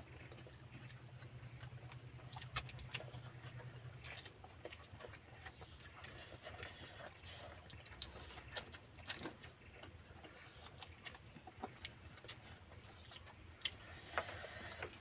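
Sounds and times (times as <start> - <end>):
noodles slurped and chewed: 0.0 - 15.0.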